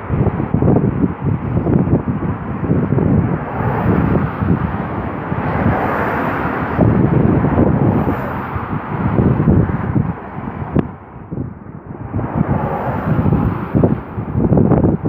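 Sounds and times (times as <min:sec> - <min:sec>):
freight train rumbling: 0:00.0 - 0:15.0
wind buffeting microphone: 0:00.0 - 0:15.0.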